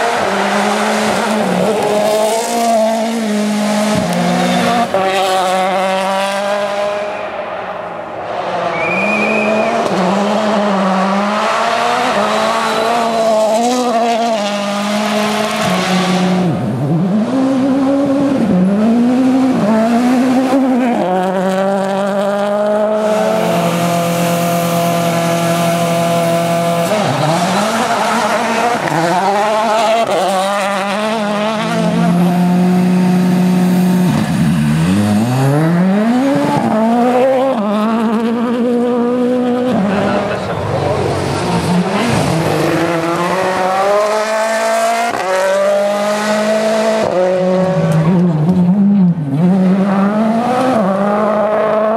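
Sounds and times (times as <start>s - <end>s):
rally car engines at full throttle: 0.0s - 51.9s.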